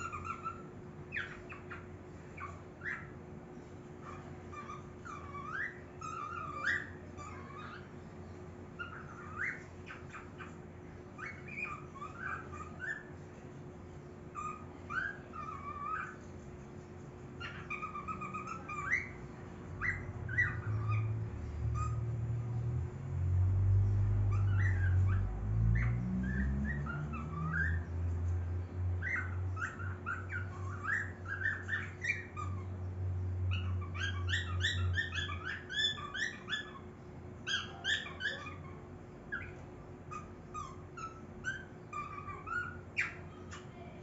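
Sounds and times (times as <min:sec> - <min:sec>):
baby cockatiels chirping: 0:00.0 - 0:08.1, 0:08.7 - 0:13.5, 0:14.3 - 0:22.8, 0:23.4 - 0:44.0.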